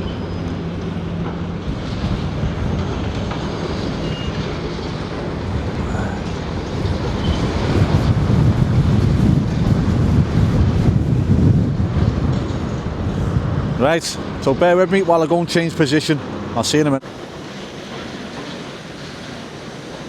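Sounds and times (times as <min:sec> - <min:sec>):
heavy engines rumbling: 0:00.0 - 0:20.0
passing road traffic: 0:00.0 - 0:20.0.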